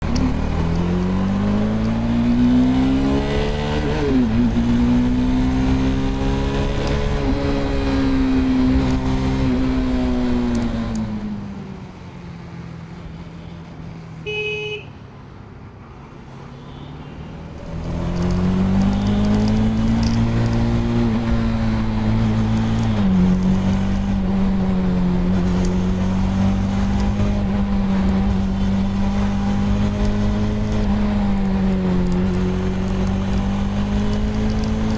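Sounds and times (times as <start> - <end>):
motorcycle engine revving: 0.0 - 11.3, 17.6 - 34.9.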